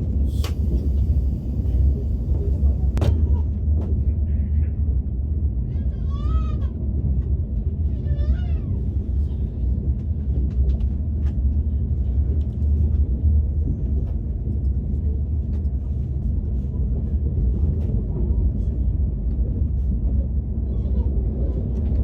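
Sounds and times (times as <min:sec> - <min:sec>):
train rumbling inside carriage: 0:00.0 - 0:22.0.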